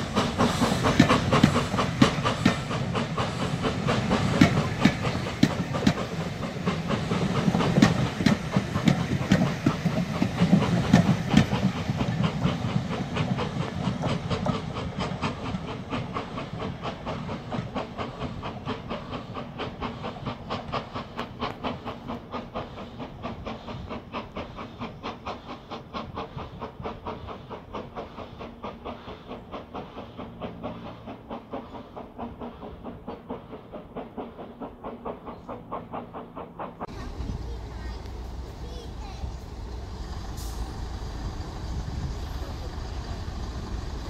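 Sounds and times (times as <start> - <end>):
steam locomotive chuffing: 0.0 - 44.0.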